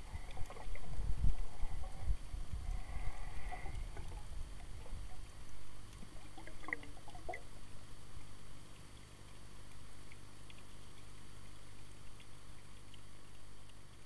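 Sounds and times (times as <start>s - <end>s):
muffled underwater water noise: 0.0s - 14.0s.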